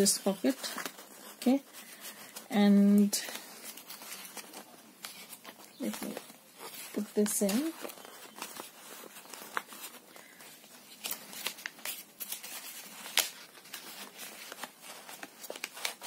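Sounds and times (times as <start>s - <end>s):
paper rustling and scraping: 0.0s - 16.0s
paper crinkles and taps: 0.7s - 16.0s.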